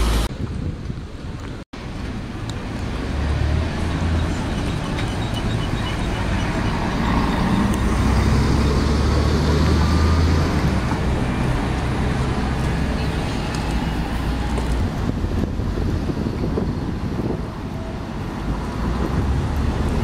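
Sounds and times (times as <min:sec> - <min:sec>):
buses driving past: 0:00.0 - 0:20.0.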